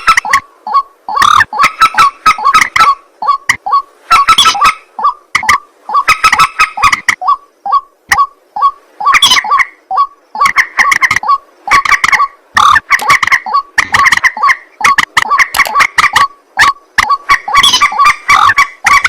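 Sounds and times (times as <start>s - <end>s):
waterhen calling harsh croaks: 0.0s - 19.0s.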